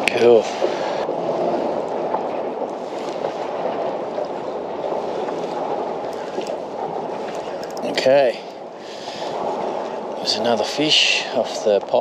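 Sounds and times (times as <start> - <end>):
choppy water around kayak: 0.0 - 12.0
wind: 0.0 - 12.0.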